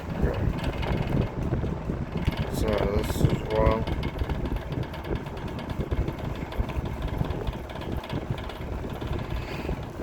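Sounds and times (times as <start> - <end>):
box fan rumbling: 0.0 - 10.0
fan rattling knock: 0.0 - 10.0.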